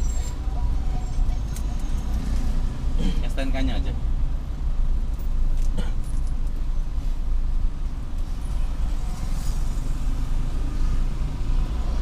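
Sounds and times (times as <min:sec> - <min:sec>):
road traffic: 0:00.0 - 0:12.0
vehicle engine rumbling: 0:00.0 - 0:12.0.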